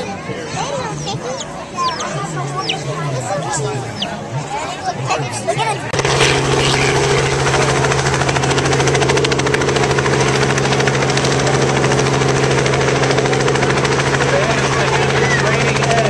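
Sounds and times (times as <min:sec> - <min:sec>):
helicopter flying low: 0:00.0 - 0:16.0.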